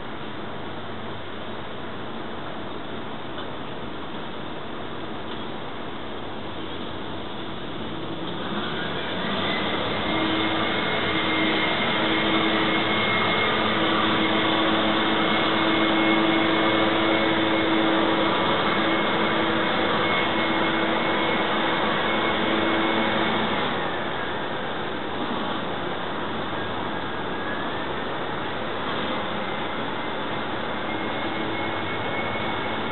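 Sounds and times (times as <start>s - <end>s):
roofing torch burning: 6.5s - 32.9s.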